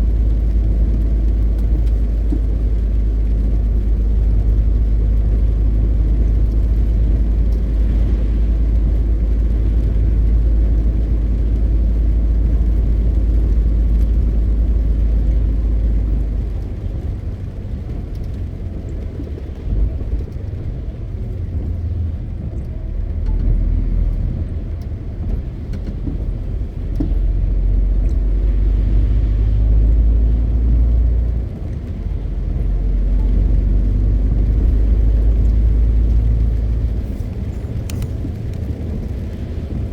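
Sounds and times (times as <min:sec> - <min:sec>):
road rumble: 0:00.0 - 0:39.9
truck diesel engine drone: 0:00.0 - 0:39.9.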